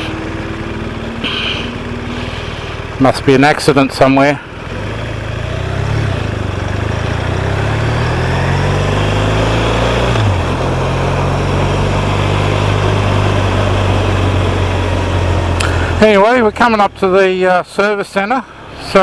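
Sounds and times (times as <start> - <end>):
motorcycle engine accelerating: 0.0 - 17.5
wind and road noise: 0.0 - 19.0.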